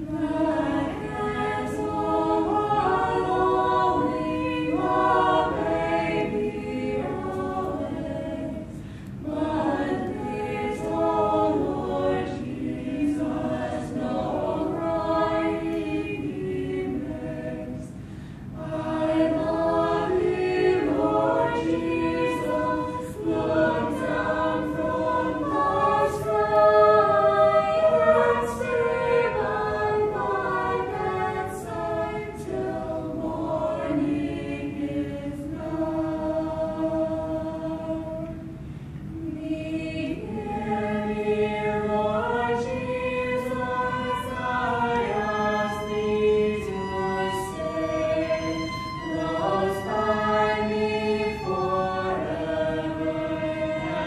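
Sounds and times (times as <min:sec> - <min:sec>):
group singing a cappella: 0:00.0 - 0:54.0.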